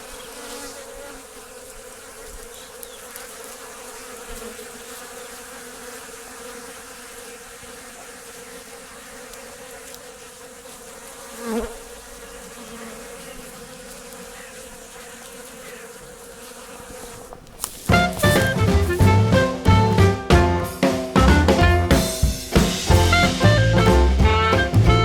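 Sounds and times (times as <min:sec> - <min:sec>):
bee passing close: 0:00.0 - 0:25.0
honeybees buzzing: 0:00.0 - 0:25.0.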